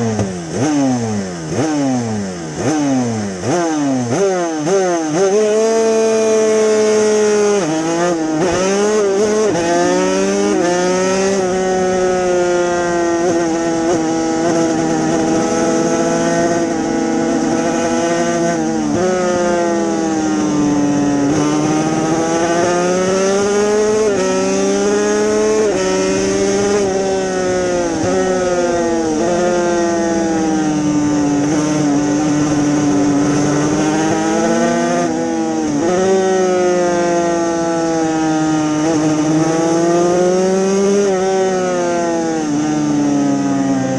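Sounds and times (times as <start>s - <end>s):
two-stroke motorcycle engine revving: 0.0s - 43.9s.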